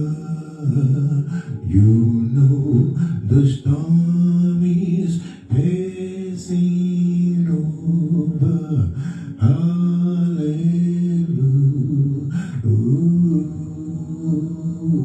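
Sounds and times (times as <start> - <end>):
person singing wordless notes: 0.0 - 15.0.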